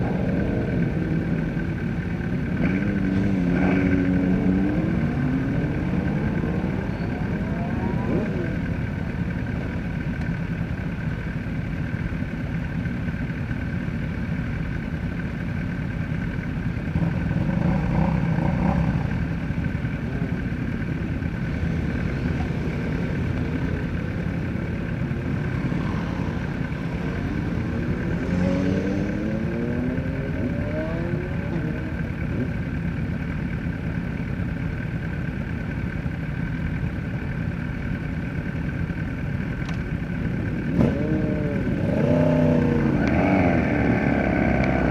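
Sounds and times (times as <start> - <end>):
motorcycle engine accelerating: 0.0 - 11.7, 16.0 - 34.3, 37.9 - 44.9.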